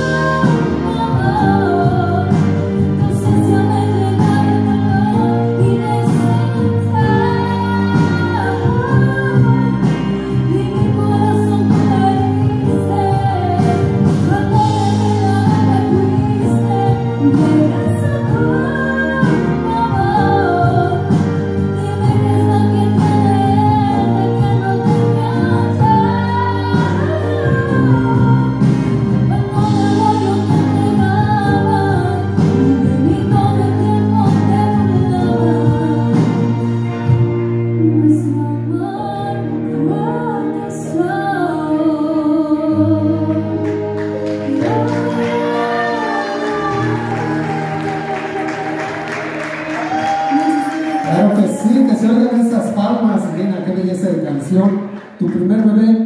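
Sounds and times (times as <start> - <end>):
woman singing slow song: 0.0 - 37.0, 37.6 - 51.2.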